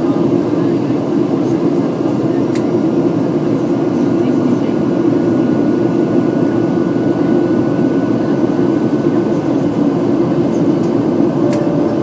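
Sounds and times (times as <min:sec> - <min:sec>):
jet engines in passenger cabin: 0:00.0 - 0:12.0.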